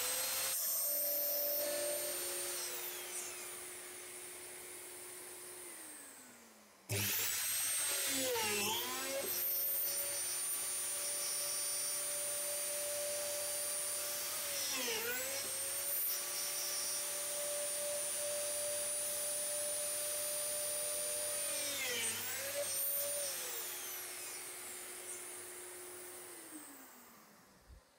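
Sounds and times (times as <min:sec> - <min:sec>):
drilling machine motor whining: 0:00.0 - 0:27.6.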